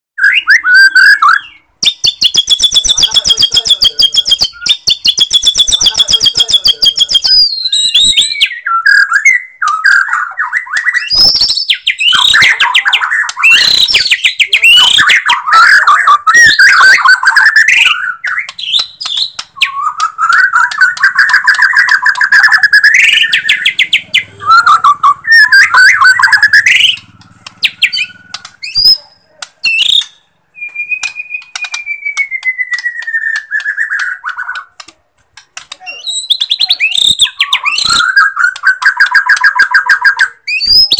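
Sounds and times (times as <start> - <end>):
bird singing trills and whistles: 0.2 - 34.8, 35.6 - 40.9.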